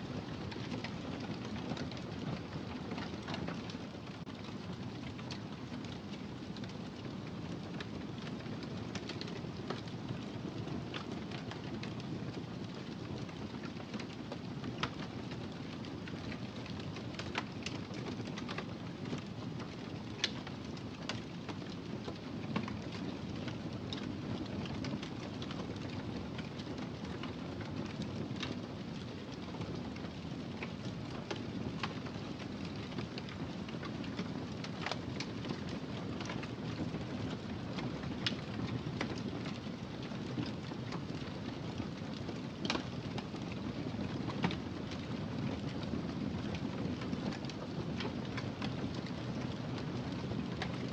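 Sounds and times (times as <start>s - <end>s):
fire crackling and popping: 0.2s - 50.9s.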